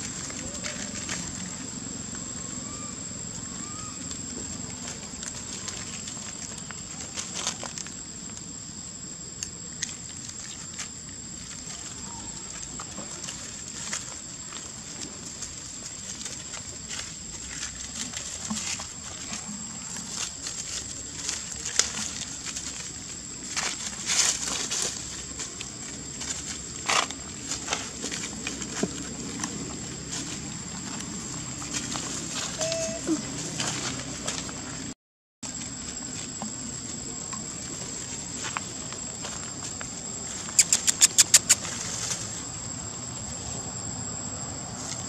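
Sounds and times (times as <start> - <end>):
monkeys moving on dry leaves: 0.0 - 2.8, 3.4 - 8.4, 10.0 - 34.9, 35.5 - 43.7.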